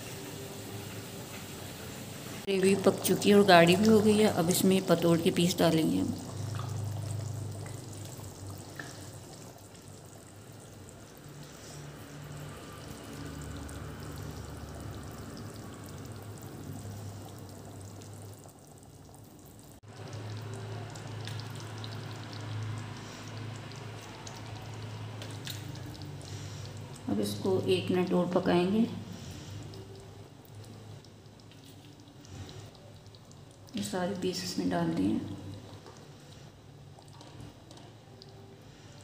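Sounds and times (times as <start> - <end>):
gravy simmering and bubbling: 0.0 - 39.0.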